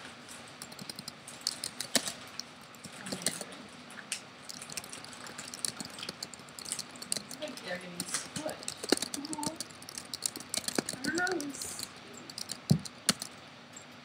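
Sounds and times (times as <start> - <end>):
keyboard key clicks: 0.6 - 3.5, 4.5 - 13.3.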